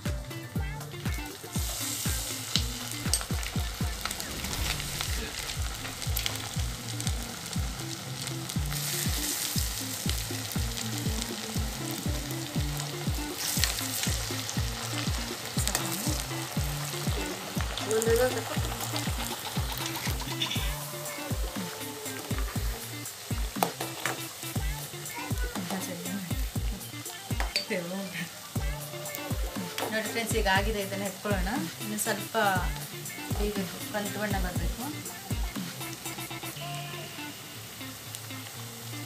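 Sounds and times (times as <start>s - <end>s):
background music with beat: 0.0s - 37.5s
food sizzling in hot oil: 0.0s - 39.0s.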